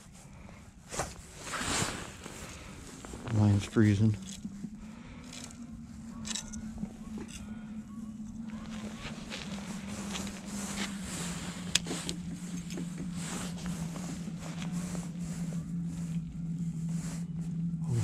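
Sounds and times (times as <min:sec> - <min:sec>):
steady low hum: 0:00.0 - 0:18.0
low rumble: 0:00.3 - 0:18.0.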